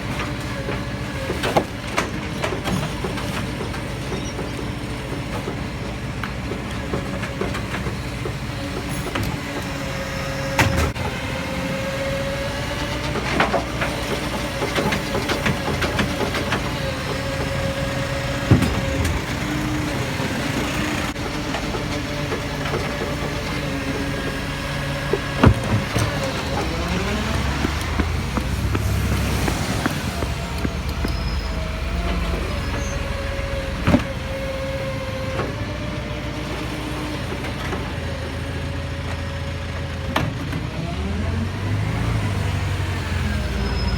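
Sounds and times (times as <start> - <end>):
garbage truck engine whining: 0.0 - 43.9.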